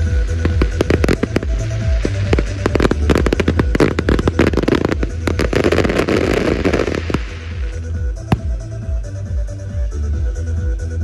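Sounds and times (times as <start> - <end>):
fireworks bangs and crackling: 0.0 - 8.9
music with steady bass beat: 0.0 - 11.0.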